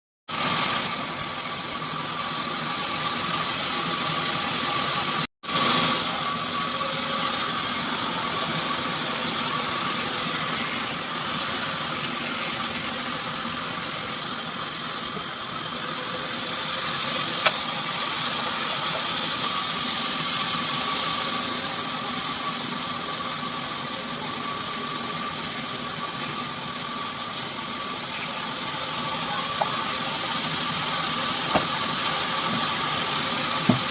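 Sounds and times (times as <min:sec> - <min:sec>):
sawmill humming with whine: 0:00.4 - 0:33.9.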